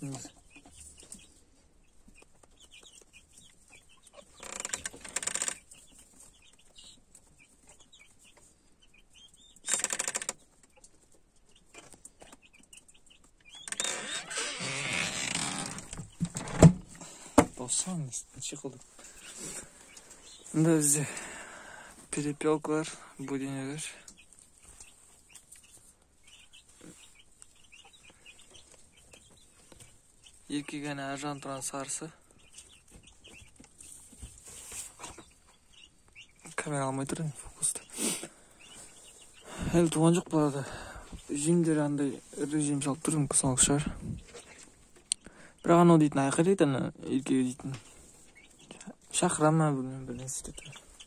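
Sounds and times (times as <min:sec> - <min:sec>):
quail chirping: 0:00.0 - 0:14.7, 0:18.5 - 0:51.0
chicks peeping: 0:00.0 - 0:51.0.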